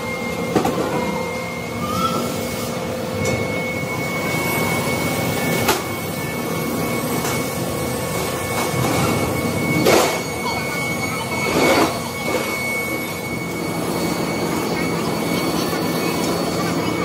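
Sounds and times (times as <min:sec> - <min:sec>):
factory machinery whining: 0:00.0 - 0:17.0.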